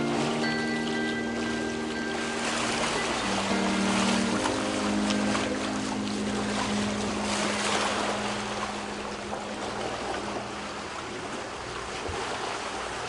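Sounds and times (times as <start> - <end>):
low steady hum: 0.0 - 13.0
water splashing along hull: 0.0 - 13.0.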